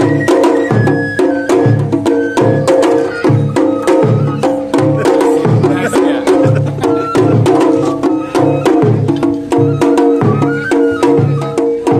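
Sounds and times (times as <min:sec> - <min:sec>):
taiko drums beating: 0:00.0 - 0:11.9.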